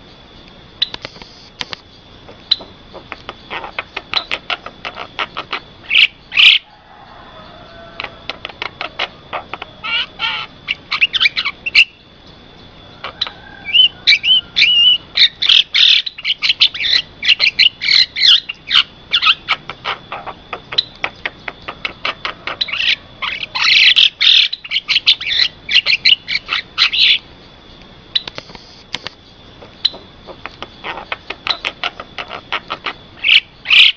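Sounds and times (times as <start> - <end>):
bird chattering: 1.9 - 28.4, 29.3 - 33.9.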